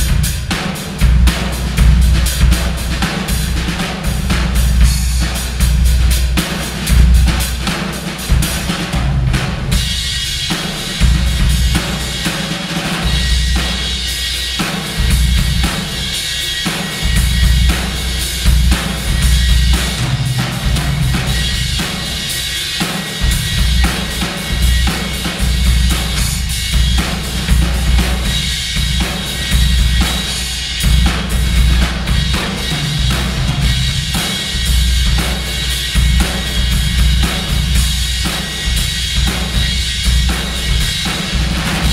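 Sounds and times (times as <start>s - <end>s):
drum kit groove with echo: 0.0s - 41.9s.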